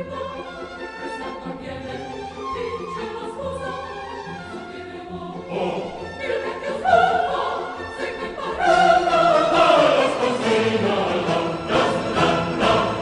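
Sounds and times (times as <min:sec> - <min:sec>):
choir singing with orchestra: 0:00.0 - 0:13.0.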